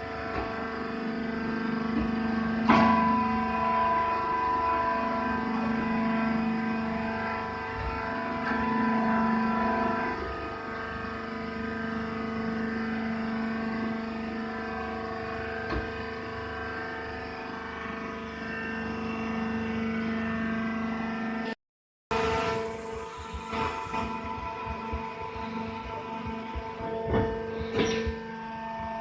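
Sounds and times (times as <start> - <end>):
baling machine humming: 0.0 - 21.5, 22.1 - 29.0.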